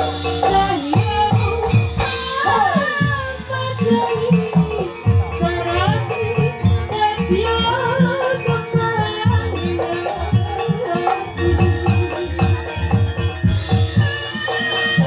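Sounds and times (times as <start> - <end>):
woman singing through microphone: 0.0 - 13.0
hand drum beats: 0.0 - 15.0.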